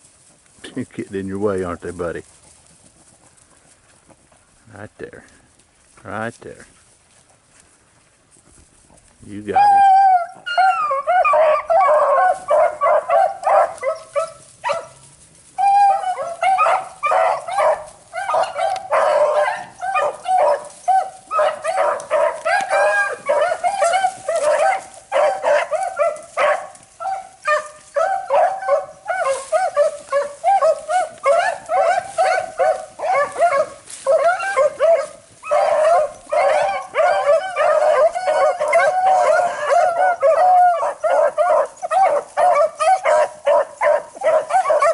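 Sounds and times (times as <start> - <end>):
dogs baying: 8.8 - 44.9.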